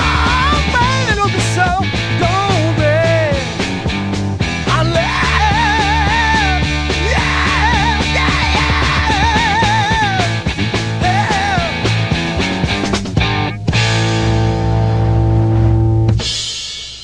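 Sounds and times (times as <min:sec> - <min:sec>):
psychedelic rock music: 0:00.0 - 0:17.0.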